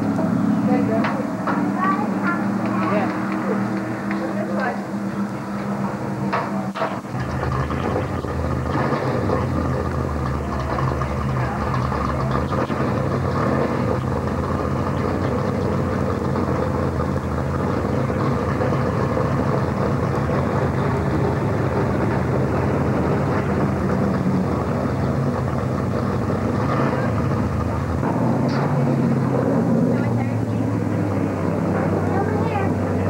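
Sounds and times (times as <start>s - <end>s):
car engines idling: 0.0s - 33.0s.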